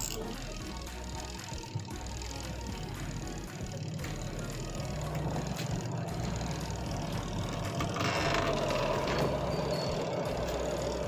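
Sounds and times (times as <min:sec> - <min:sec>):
spin-dryer motor hum: 0:00.0 - 0:11.0.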